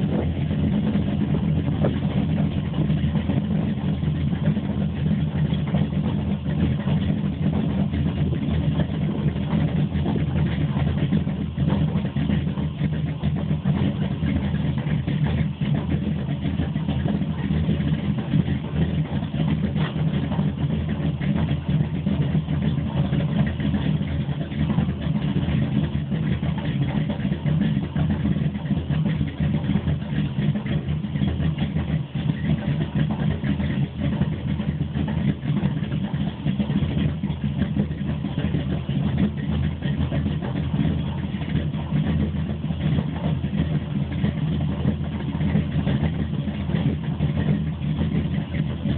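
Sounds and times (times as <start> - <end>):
engine idling: 0.0 - 48.9.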